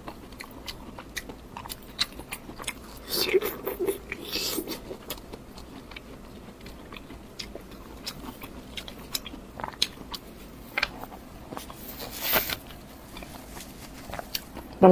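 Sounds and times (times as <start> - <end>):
food crunching: 0.0 - 14.8
person chewing food: 0.0 - 14.8.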